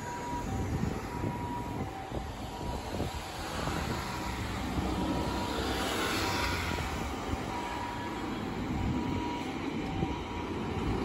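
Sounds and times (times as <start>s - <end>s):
faint two-tone ambulance siren: 0.0s - 11.0s
road traffic rumbling: 0.0s - 11.0s.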